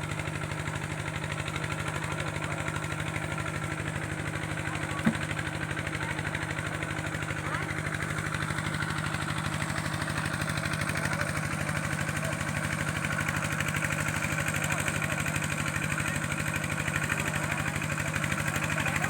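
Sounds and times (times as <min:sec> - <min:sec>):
small engine idling: 0:00.0 - 0:19.0.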